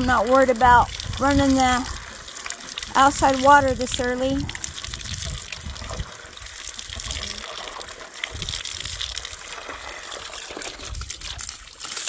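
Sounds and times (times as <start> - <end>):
wind rumbling on microphone: 0.0 - 11.7
hose water splashing into bucket: 0.0 - 12.0.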